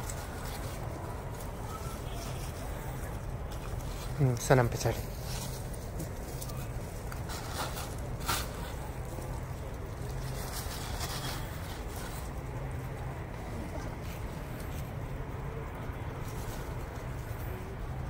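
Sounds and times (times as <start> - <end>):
plastic bag rustling: 0.0 - 15.0
low outdoor rumble: 0.0 - 18.0.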